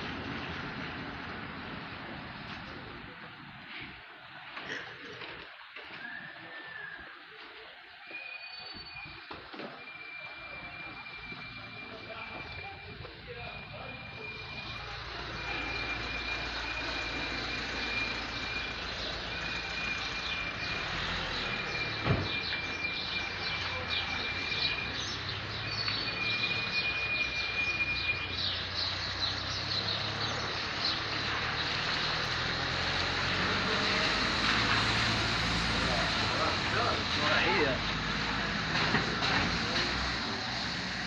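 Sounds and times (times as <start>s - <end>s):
traffic noise: 0.0s - 41.0s
birds chirping: 0.2s - 38.8s.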